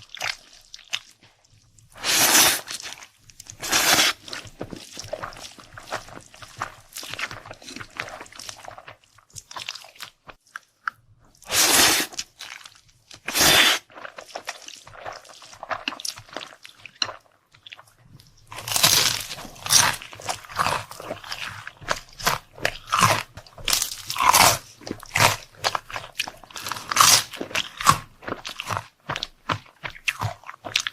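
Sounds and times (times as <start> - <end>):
chewing and crunching food: 0.0 - 30.9.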